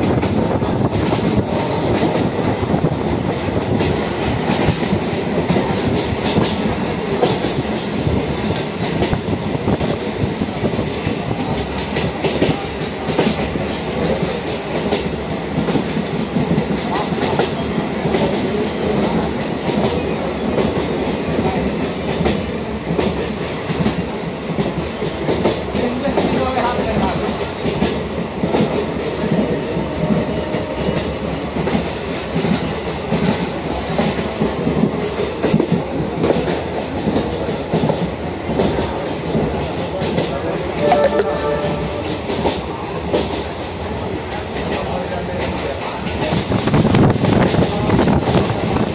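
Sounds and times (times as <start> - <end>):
train wheels rumbling on rails: 0.0 - 40.9, 41.7 - 48.9.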